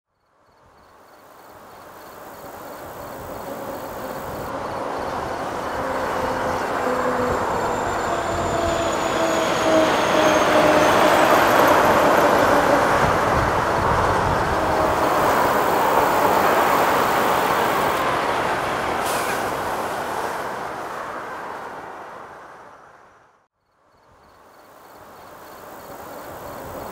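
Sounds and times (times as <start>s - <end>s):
road traffic passing: 1.9s - 23.5s.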